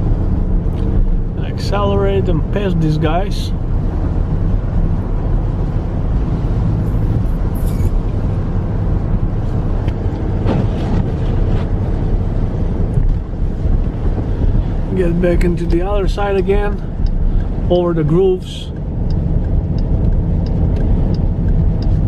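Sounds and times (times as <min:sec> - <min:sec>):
road noise on snow: 0:00.0 - 0:22.0.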